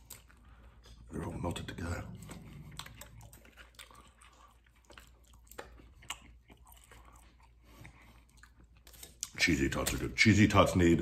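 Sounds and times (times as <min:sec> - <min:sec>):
man chewing food: 0:00.0 - 0:10.2.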